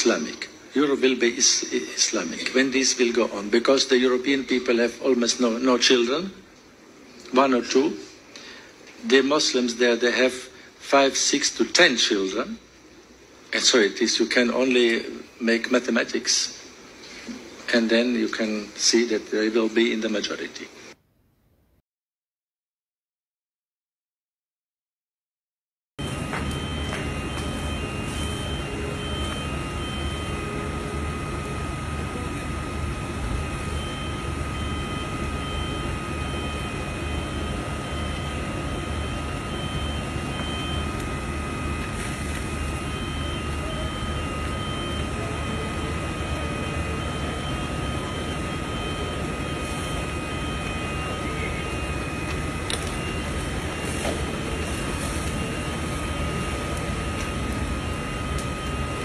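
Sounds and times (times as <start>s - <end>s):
fire engine pump running: 0.0s - 20.9s, 26.0s - 59.0s
high whine: 0.0s - 21.0s, 26.0s - 59.0s.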